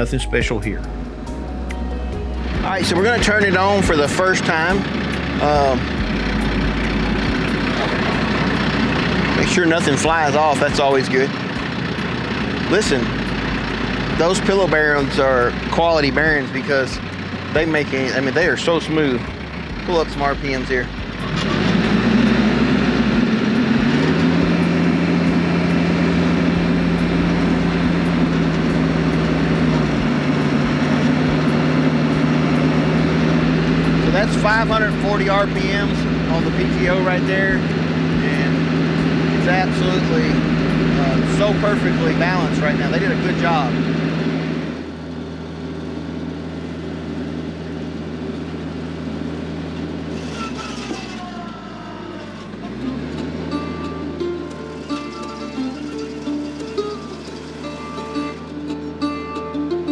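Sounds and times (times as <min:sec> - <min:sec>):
tractor engine running stump grinder: 0:00.7 - 0:59.9.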